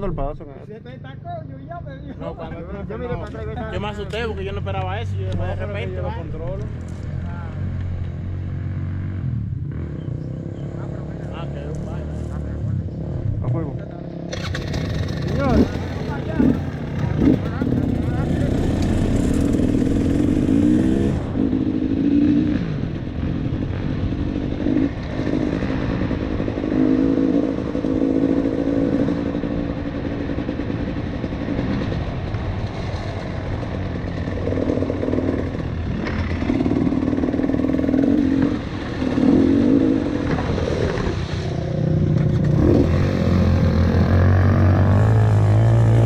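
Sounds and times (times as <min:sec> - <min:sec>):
deeper engine drone: 0:02.4 - 0:46.0
dirt bike engine revving: 0:03.8 - 0:46.0.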